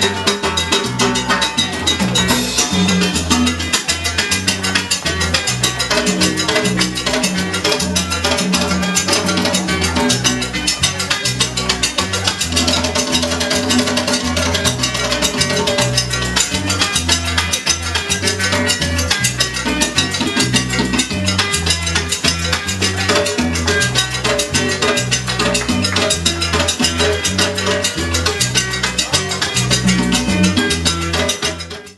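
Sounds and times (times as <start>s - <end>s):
salsa music: 0.0s - 31.9s.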